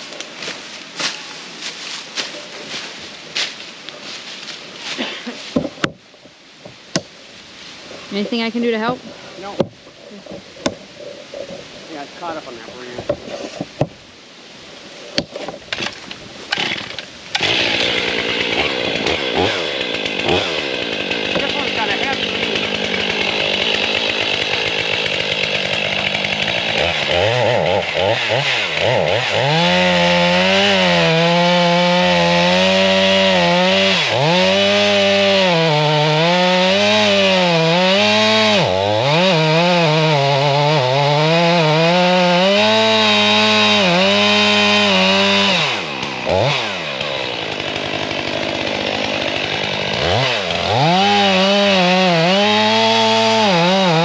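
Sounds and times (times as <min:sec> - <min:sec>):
chainsaw cutting into tree: 0:08.0 - 0:14.0, 0:15.1 - 0:54.0.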